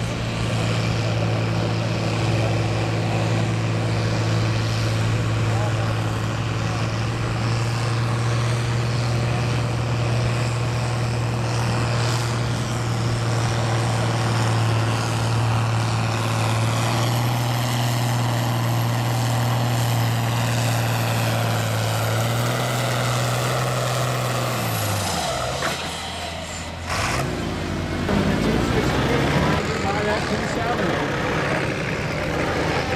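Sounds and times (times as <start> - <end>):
tractor engine droning under load: 0.0 - 32.9.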